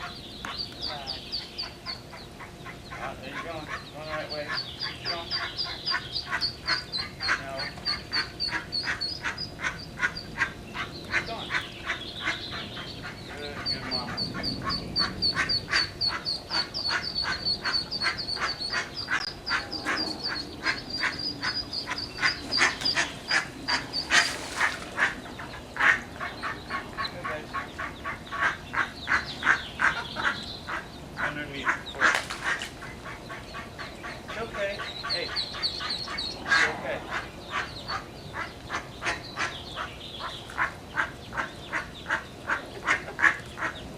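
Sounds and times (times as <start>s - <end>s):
duck calls: 0.0s - 43.8s
ducklings peeping: 0.0s - 43.9s.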